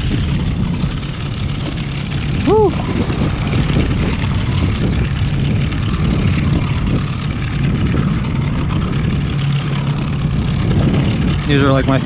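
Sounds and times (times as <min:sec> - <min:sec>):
outboard motor running: 0:00.0 - 0:12.0
water rushing: 0:00.0 - 0:12.0.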